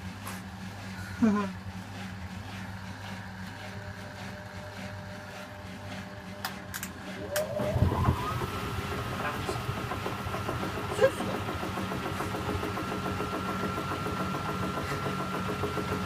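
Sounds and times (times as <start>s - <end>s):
drum motor whine: 0.0s - 16.0s
washing machine low hum: 0.0s - 16.0s.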